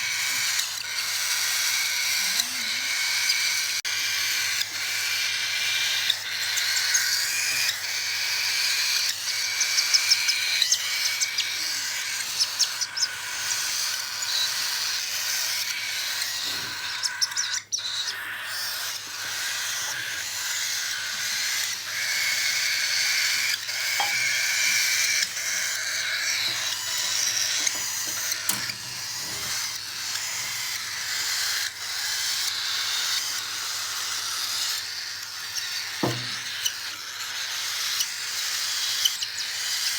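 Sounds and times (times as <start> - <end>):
bird chicks raspy begging calls: 0.0 - 39.9.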